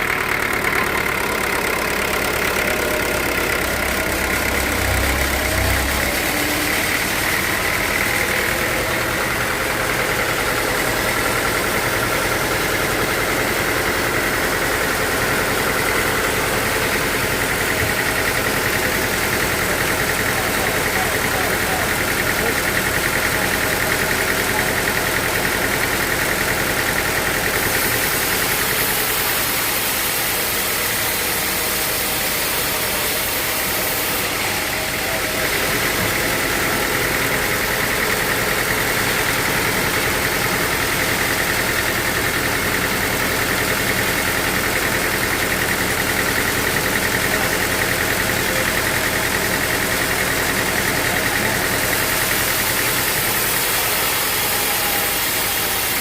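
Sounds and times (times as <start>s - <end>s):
sawmill machinery drone and whine: 0.0s - 56.0s.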